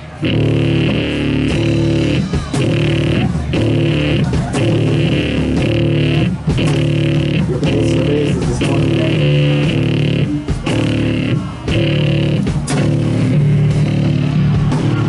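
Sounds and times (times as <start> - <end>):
blues rock band playing: 0.0 - 15.0.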